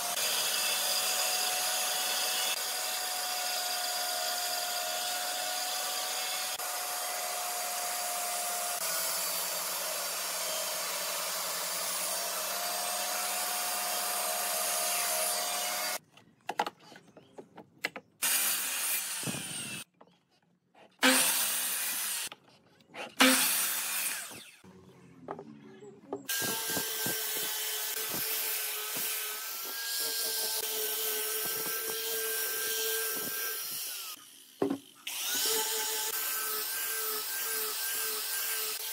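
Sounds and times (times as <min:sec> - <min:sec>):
angle grinder sanding wood: 0:00.0 - 0:16.0, 0:20.8 - 0:24.7, 0:26.3 - 0:38.9
band saw cutting wood: 0:00.0 - 0:16.0, 0:18.2 - 0:19.9, 0:20.8 - 0:24.7, 0:26.3 - 0:38.9
mitre saw cuts: 0:00.0 - 0:16.0, 0:18.2 - 0:19.9, 0:20.8 - 0:24.6, 0:26.3 - 0:38.9.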